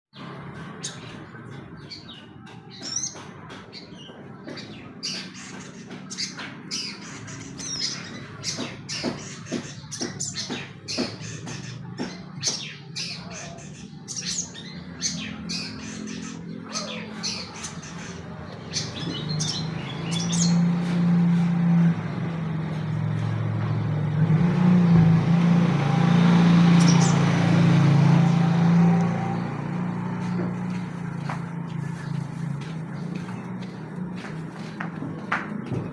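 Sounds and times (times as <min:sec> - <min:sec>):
bird chirping and squawking: 0:00.4 - 0:23.3, 0:25.5 - 0:33.1.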